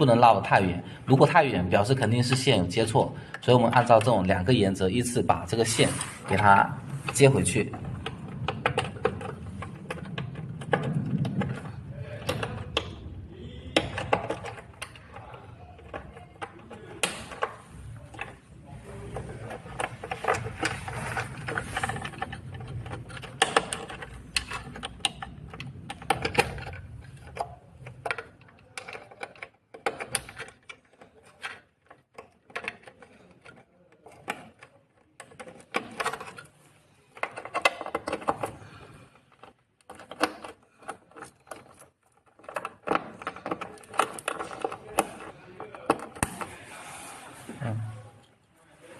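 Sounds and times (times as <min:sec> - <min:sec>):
cable rustling: 0:00.0 - 0:48.3.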